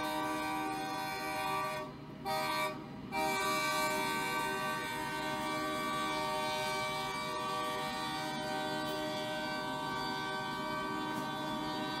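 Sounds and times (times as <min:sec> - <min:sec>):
locomotive air horn blaring: 0:00.0 - 0:12.0.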